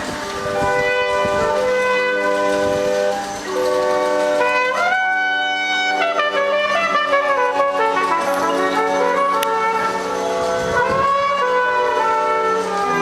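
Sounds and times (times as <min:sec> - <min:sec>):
wind instruments playing chords: 0:00.0 - 0:13.0.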